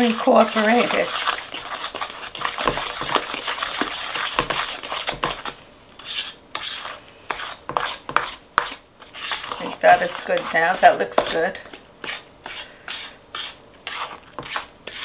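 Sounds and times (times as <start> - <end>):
wooden spoon scraping in bowl: 0.0 - 15.0.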